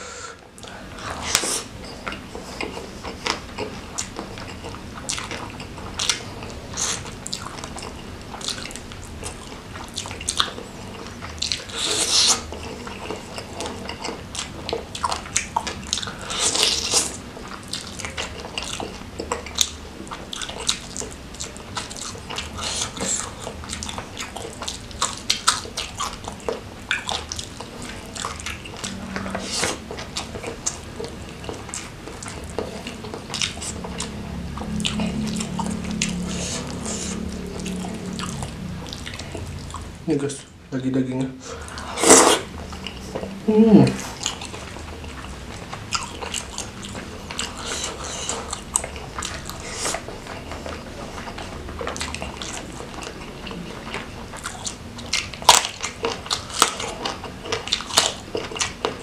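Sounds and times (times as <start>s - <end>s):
person chewing and lip smacking: 0.5s - 40.0s, 41.5s - 59.0s.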